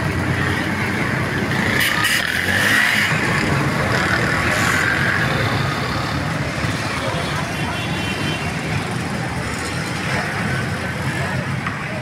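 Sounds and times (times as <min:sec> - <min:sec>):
motor vehicle engines running: 0:00.0 - 0:12.0
motorcycles passing: 0:00.0 - 0:12.0.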